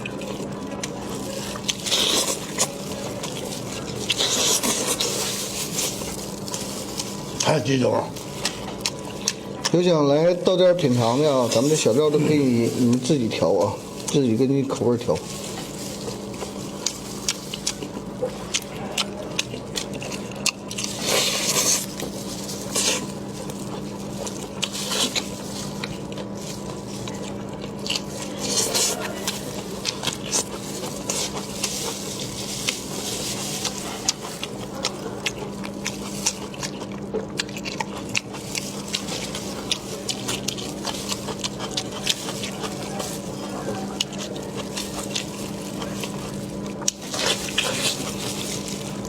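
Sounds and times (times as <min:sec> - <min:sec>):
chewing: 0:00.0 - 0:49.0.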